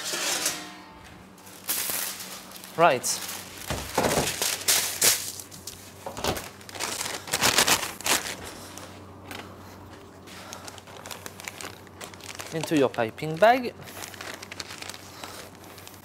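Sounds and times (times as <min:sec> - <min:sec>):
plastic bag crinkling: 0:01.4 - 0:16.0.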